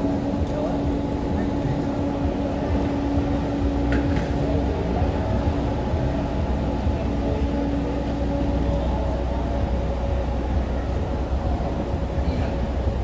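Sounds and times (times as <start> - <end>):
bus engine idling: 0.0 - 13.0
steady hum: 0.0 - 13.0.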